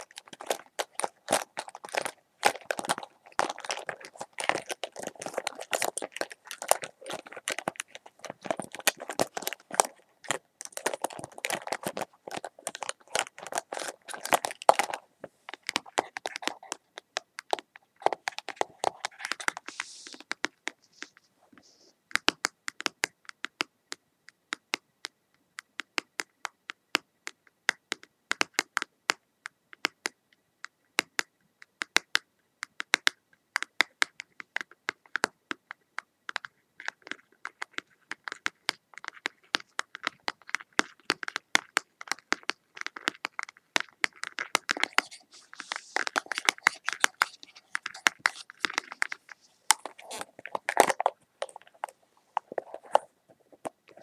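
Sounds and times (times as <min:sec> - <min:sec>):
scratching and crinkling: 0:00.0 - 0:23.6, 0:31.9 - 0:54.0.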